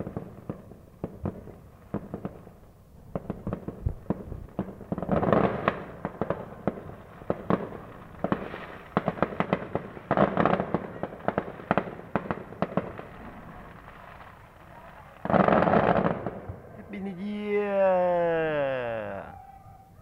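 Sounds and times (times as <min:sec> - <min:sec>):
fireworks crackling: 0:00.0 - 0:19.4
fireworks bangs: 0:00.0 - 0:19.8.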